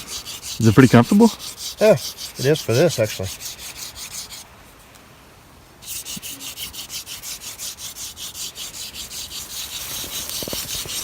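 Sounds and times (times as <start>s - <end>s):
hand drill rubbing rasp: 0.0s - 4.4s, 5.8s - 11.0s.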